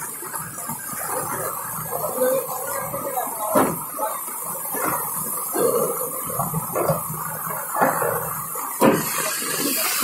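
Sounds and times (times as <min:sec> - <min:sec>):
floodwater rushing over road: 0:00.0 - 0:10.0.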